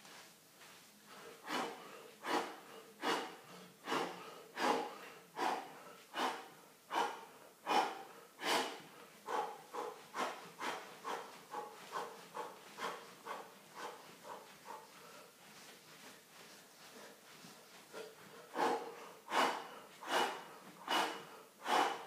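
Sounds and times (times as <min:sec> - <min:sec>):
man breathing hard: 0:01.0 - 0:22.0.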